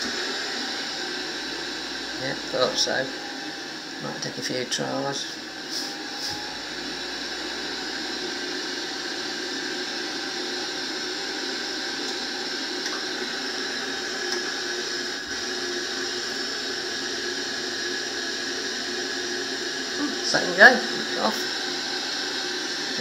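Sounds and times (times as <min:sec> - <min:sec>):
boiler fan hissing and whining: 0:00.0 - 0:23.0.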